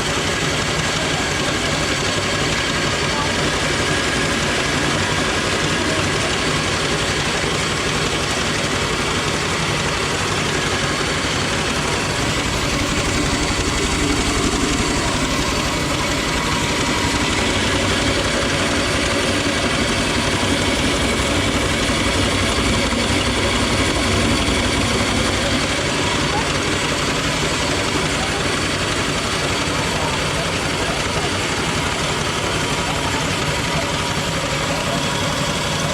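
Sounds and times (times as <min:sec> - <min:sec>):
mill machine droning: 0:00.1 - 0:35.6.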